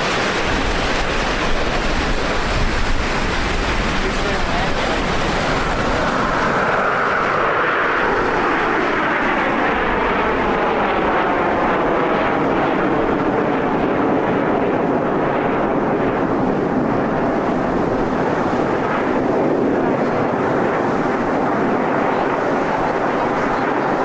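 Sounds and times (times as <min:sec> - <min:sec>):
jets flying past: 0:00.0 - 0:24.0.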